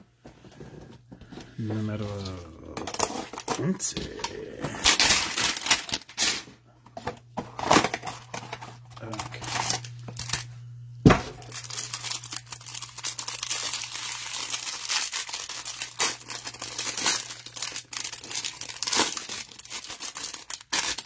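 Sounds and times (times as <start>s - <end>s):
packaging tearing and crinkling: 2.2s - 6.5s, 7.6s - 10.5s, 11.2s - 21.0s.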